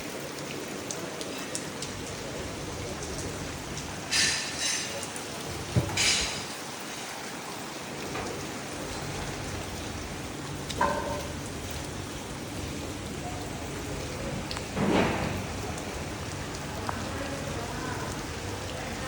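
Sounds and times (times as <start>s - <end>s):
rain pattering on surfaces: 0.0s - 19.0s.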